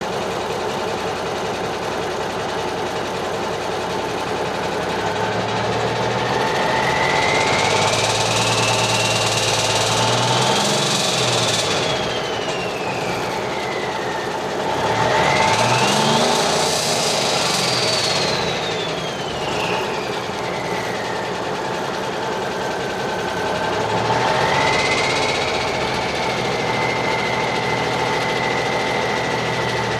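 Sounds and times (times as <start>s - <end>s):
diesel engine running: 0.0s - 29.9s
turbocharger whistling: 0.0s - 29.9s.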